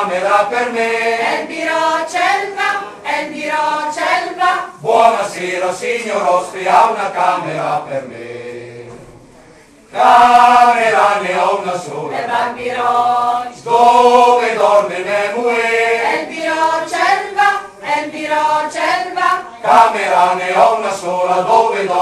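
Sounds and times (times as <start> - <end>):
mixed choir singing: 0.0 - 9.2, 9.9 - 22.0.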